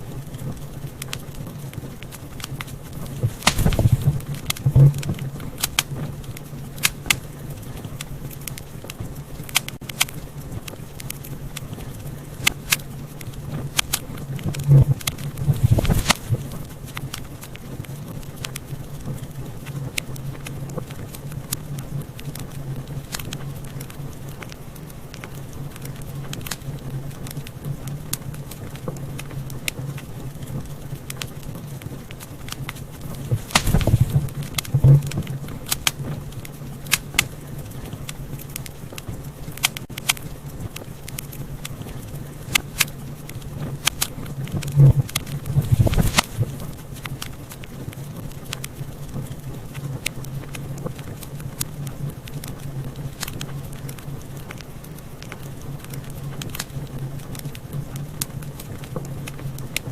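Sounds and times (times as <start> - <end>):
low steady hum: 0.0 - 59.9
wood fire crackling and popping: 0.0 - 59.9.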